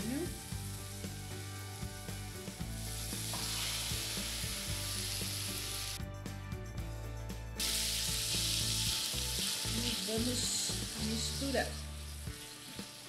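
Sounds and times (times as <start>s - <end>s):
onion sizzling in butter: 0.0s - 6.0s, 7.6s - 13.0s.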